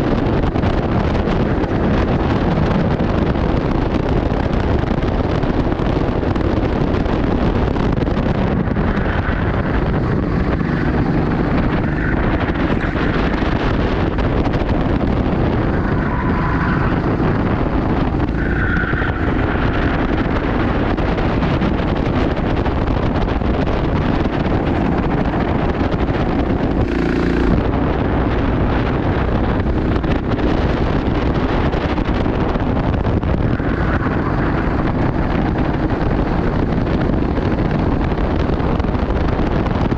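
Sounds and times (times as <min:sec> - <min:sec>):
constant low rumble: 0:00.0 - 0:39.9
wind on microphone: 0:00.0 - 0:39.9.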